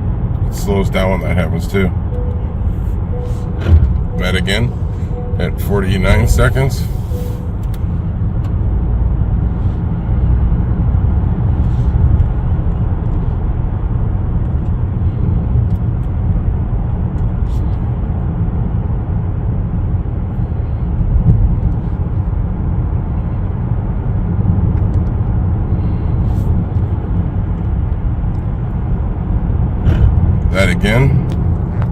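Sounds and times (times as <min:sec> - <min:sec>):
car cabin road rumble: 0:00.0 - 0:31.9.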